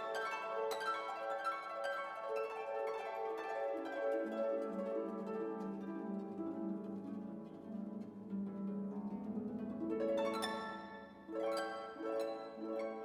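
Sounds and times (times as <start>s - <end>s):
plucked harp-like notes: 0.0s - 13.0s.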